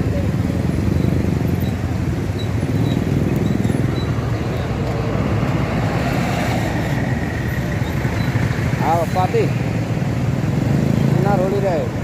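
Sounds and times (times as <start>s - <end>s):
buses and motorcycles rumbling: 0.0s - 12.0s.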